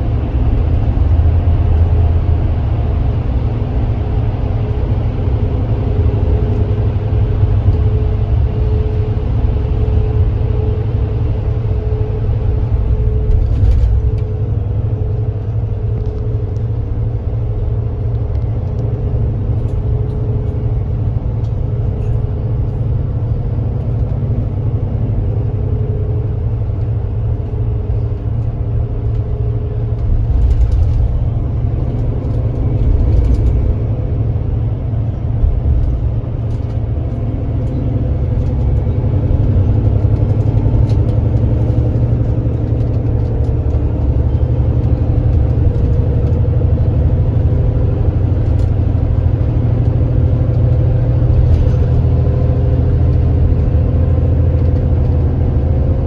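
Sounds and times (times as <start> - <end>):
coach engine droning: 0.0 - 56.0
road rumble: 0.0 - 56.0.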